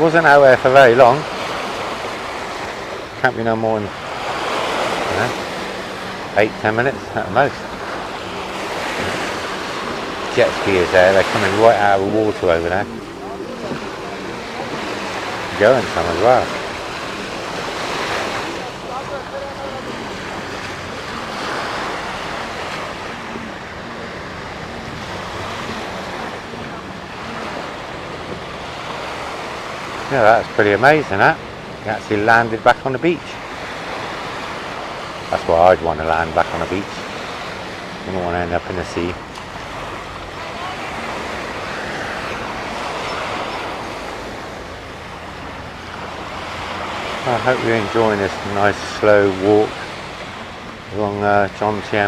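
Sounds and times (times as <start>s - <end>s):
faint distant engine hum: 0.0s - 52.0s
sea waves washing onto sand: 0.0s - 52.0s.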